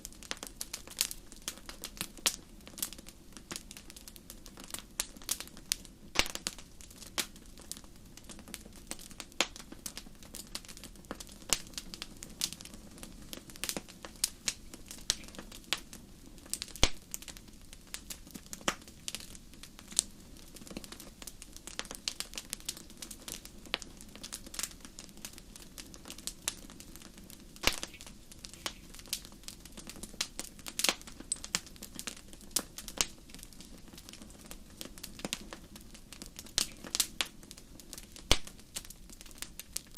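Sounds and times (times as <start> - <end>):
fire crackling: 0.0 - 39.9
low rush of flame: 0.0 - 39.9
sharp pops from fire: 0.0 - 39.9.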